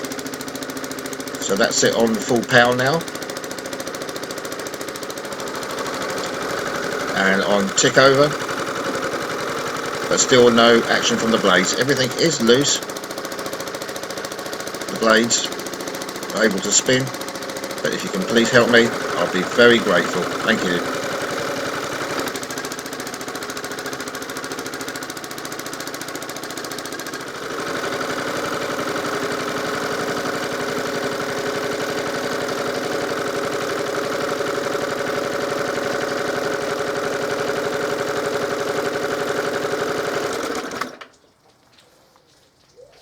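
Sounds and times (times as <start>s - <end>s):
lawnmower engine running: 0.0s - 41.2s.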